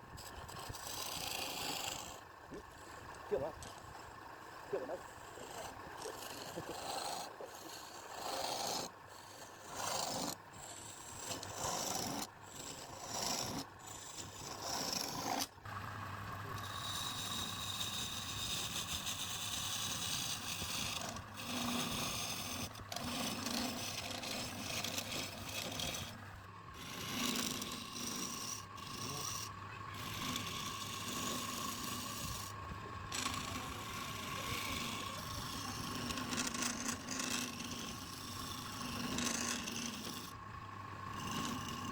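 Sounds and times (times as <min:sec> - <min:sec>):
wood being rasped: 0:00.0 - 0:15.5, 0:16.3 - 0:41.9
steady machine hum: 0:00.0 - 0:41.9.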